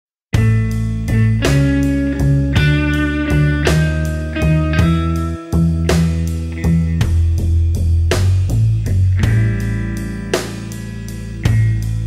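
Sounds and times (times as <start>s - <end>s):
background music: 0.4s - 12.0s.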